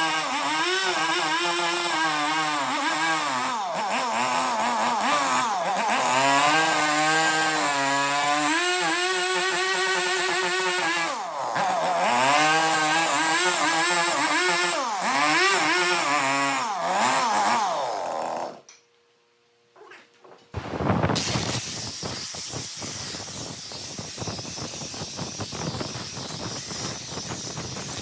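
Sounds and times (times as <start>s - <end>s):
chainsaw cutting wood: 0.0s - 18.7s, 20.6s - 28.0s.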